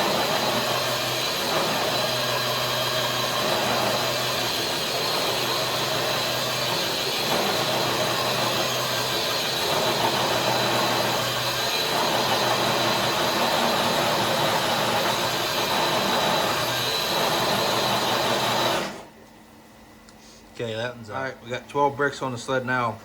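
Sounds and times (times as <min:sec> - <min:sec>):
motor and drivetrain whining: 0:00.0 - 0:19.2.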